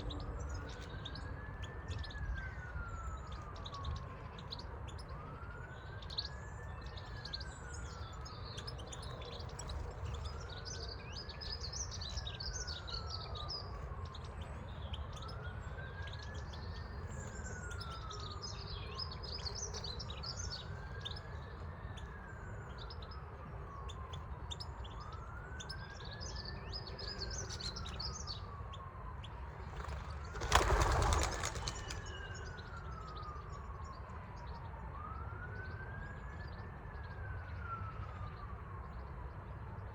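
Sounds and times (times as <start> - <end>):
small birds chirping: 0.0 - 34.7
distant siren wailing: 0.0 - 39.9.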